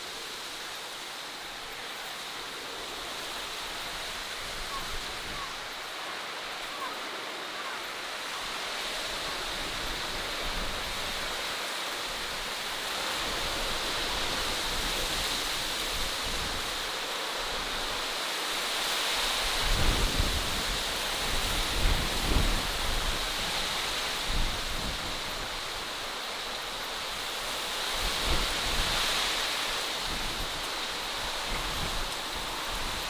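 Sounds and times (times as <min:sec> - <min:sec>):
rushing outdoor ambience: 0:00.0 - 0:33.0.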